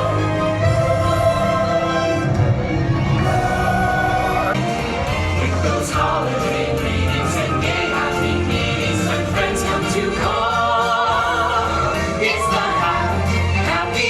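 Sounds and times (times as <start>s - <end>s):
choir singing: 0.0s - 14.0s
steady bass line: 0.0s - 14.0s.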